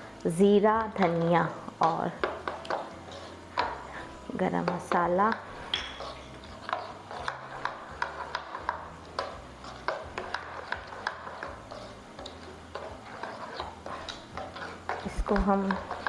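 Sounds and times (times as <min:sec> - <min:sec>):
spoon stirring in a bowl: 0:00.5 - 0:16.0.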